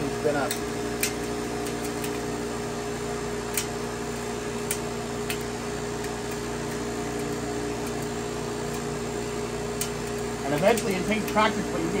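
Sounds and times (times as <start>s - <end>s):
cotton candy machine motor hum: 0.0s - 12.0s.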